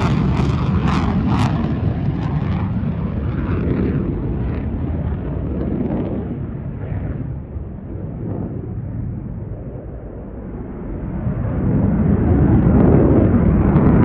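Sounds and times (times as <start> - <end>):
fighter jet flying past: 0.0 - 14.0.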